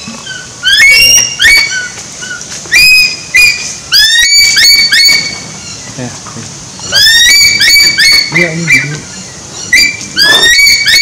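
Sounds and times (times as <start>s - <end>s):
eagles shrill whistled calls: 0.0s - 5.9s, 6.8s - 11.0s.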